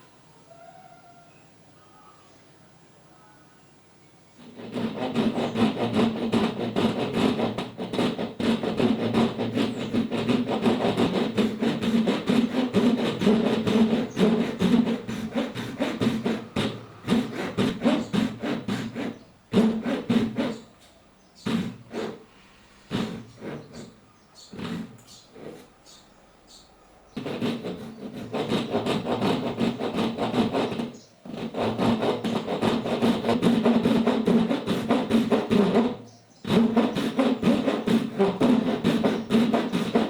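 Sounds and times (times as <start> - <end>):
hand tool working wood: 4.4 - 20.8, 21.4 - 25.8, 27.2 - 40.0.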